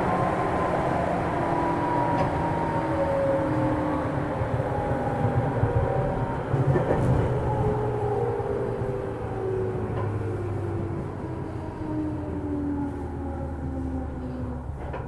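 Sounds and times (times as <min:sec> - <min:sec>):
wheel and rail rumble: 0:00.0 - 0:15.0.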